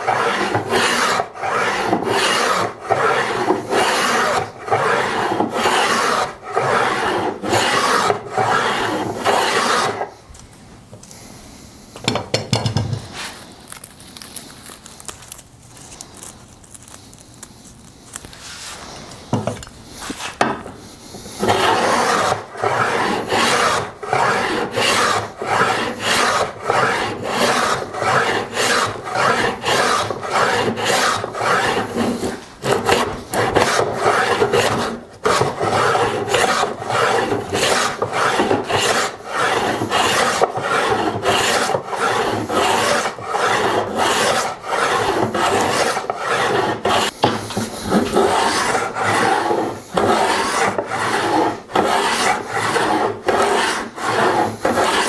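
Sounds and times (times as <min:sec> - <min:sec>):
hand tool strokes on wood: 0:00.0 - 0:10.2, 0:18.4 - 0:55.0.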